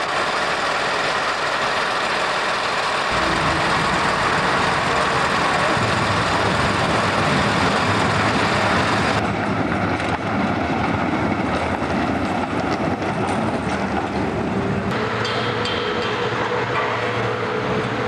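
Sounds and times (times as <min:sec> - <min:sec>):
city street noise: 0:00.0 - 0:18.0
tram rolling past: 0:00.0 - 0:18.0.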